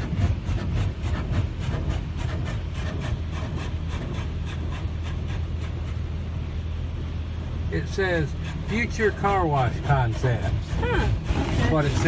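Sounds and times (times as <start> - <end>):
low rumble: 0.0 - 12.0
water jets spraying car: 0.0 - 12.0.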